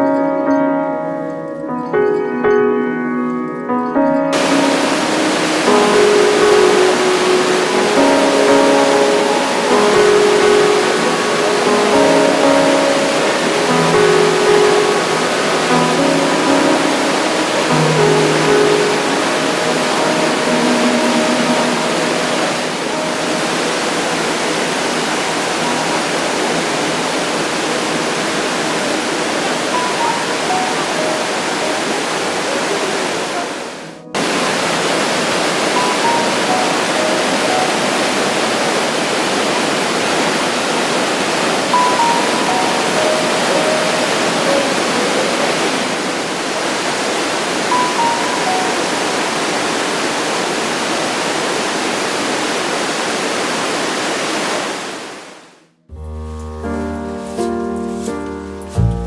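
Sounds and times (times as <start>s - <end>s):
faint musical notes: 0.0s - 51.3s, 55.9s - 59.0s
waterfall rushing: 4.3s - 59.0s.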